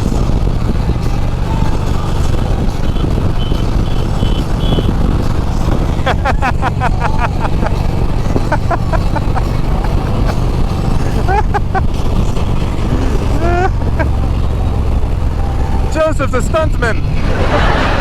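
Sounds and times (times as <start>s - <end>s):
motorcycle engine and wind rumble: 0.0s - 18.0s.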